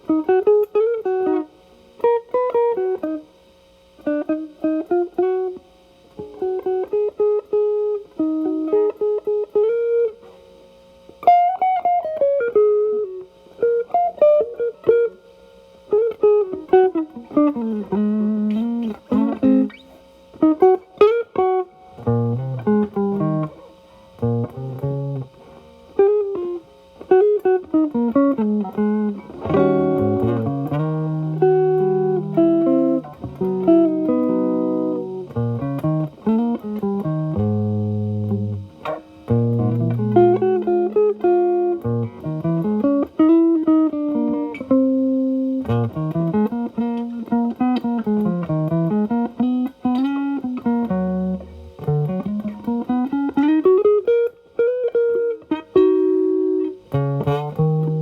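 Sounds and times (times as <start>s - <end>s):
overdriven electric guitar blues: 0.0s - 58.0s.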